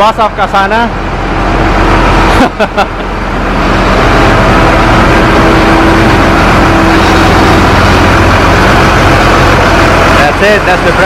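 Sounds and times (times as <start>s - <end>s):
construction machine engine humming: 0.0s - 11.0s.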